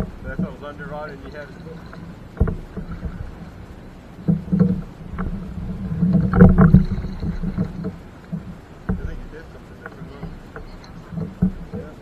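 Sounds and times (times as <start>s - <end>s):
paddle strokes in water: 0.0s - 12.0s.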